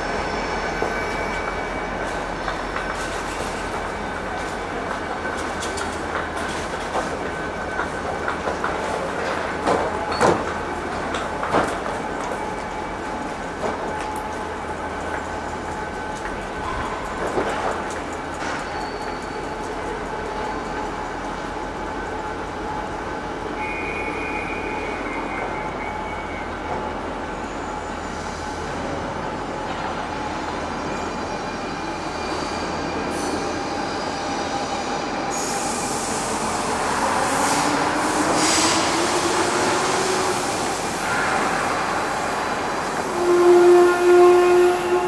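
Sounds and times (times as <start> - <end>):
electric train running on rails: 0.0 - 45.0.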